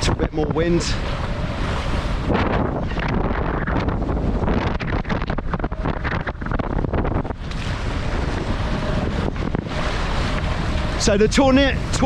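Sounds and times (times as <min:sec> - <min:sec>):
water rushing past hulls: 0:00.0 - 0:12.0
water slapping hulls: 0:00.0 - 0:12.0
wind buffeting microphone: 0:00.0 - 0:12.0.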